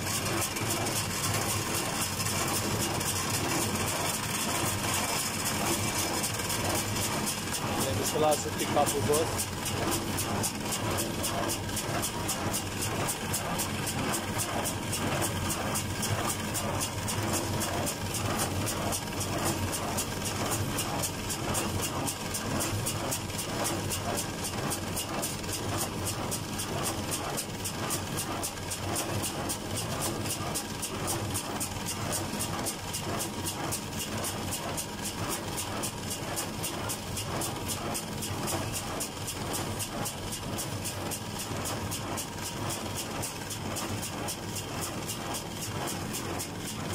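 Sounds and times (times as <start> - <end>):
baler mechanical rhythm: 0.0 - 46.9
tractor engine running: 0.0 - 46.9.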